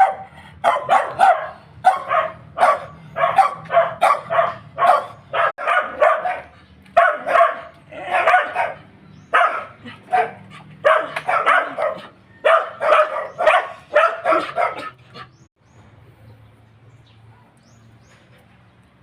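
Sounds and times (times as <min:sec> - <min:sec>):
dogs barking: 0:00.0 - 0:15.5.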